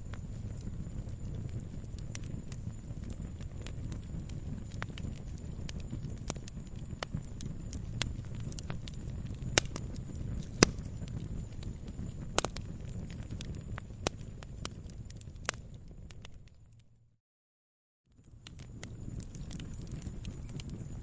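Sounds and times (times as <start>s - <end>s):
flames rumbling: 0.0s - 16.8s, 18.1s - 21.0s
firewood crackling and popping: 0.0s - 16.9s, 18.1s - 21.0s.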